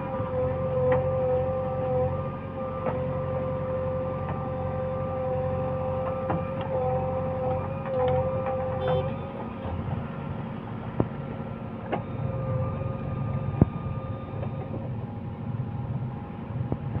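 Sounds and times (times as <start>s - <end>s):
diesel engine running: 0.0s - 17.0s
thin steady whine: 0.0s - 17.0s.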